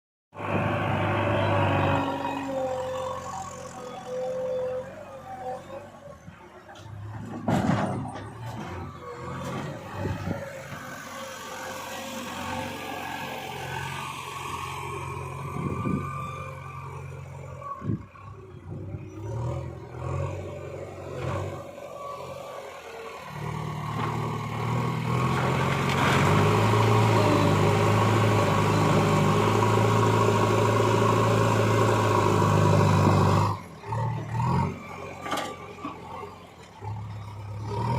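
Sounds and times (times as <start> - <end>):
diesel engine running and revving: 0.3 - 37.9.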